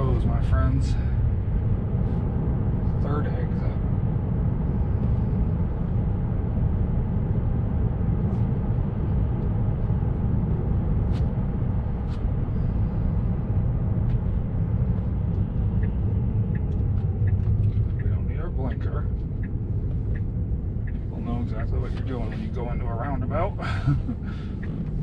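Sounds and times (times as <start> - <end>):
road and tyre rumble in car: 0.0 - 25.0.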